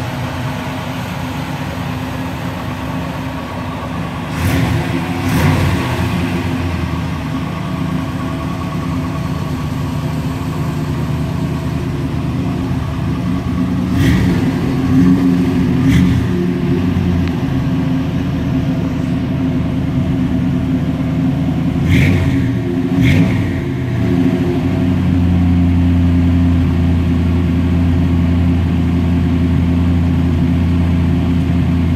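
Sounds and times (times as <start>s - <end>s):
car engine idling: 0.0s - 31.9s
engine throttle blips: 0.0s - 31.9s.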